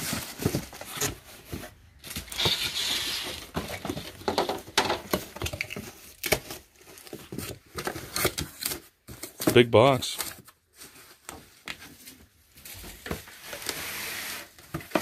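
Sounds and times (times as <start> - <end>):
cardboard rustling and scraping: 0.0 - 15.0.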